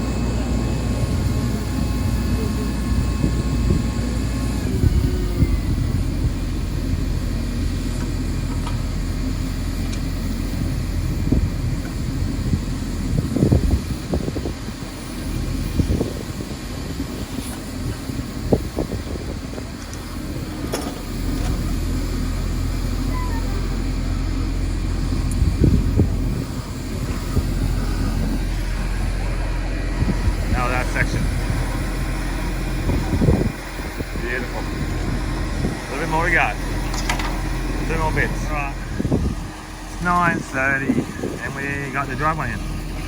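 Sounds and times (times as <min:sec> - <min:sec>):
heavy truck engine humming: 0:00.0 - 0:43.0.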